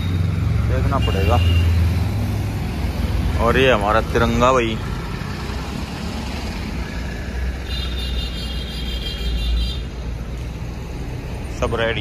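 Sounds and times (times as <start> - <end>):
street traffic rumble: 0.0 - 12.0
wind: 0.0 - 12.0.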